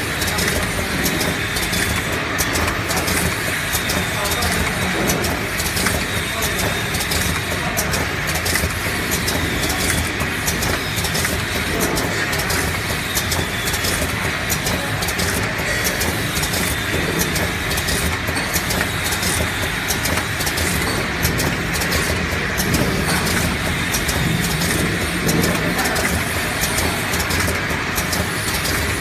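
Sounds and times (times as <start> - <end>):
machine humming: 0.0 - 29.0
machine parts clicking and rattling: 0.0 - 29.0.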